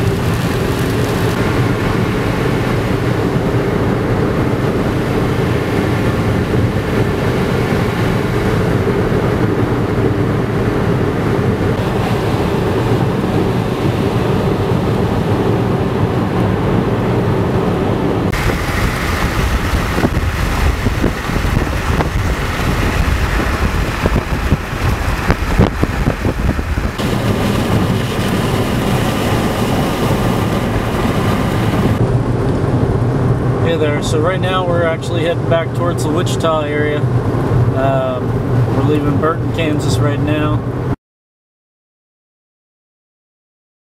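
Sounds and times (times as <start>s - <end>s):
car road noise on wet pavement: 0.0s - 41.0s
wind rushing and buffeting: 0.0s - 41.0s.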